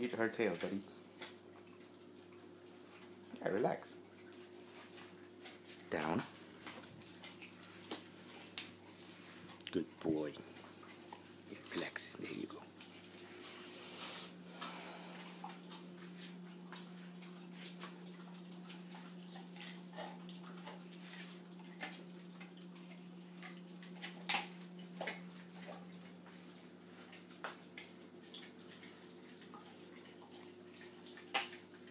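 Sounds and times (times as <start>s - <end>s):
dogs chewing meat on bone: 0.0s - 31.9s.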